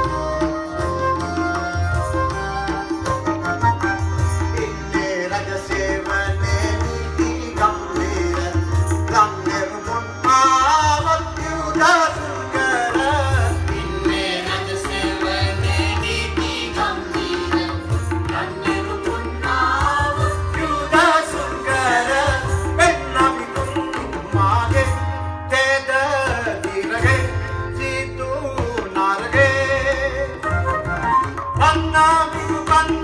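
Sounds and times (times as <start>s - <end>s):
tabla drumming: 0.0s - 33.0s.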